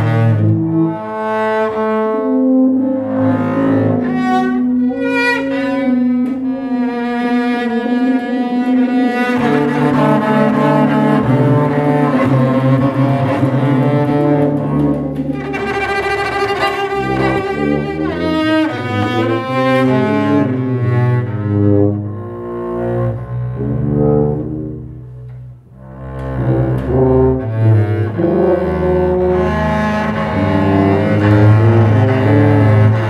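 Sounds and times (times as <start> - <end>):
bowed double bass: 0.0 - 33.0
tuba low notes: 0.0 - 33.0.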